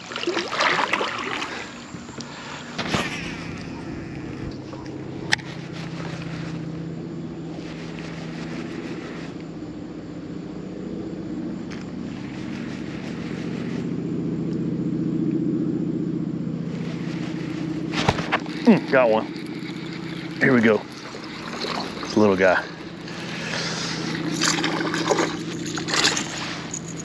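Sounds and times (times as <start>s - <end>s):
steady motor hum: 0.0s - 27.0s.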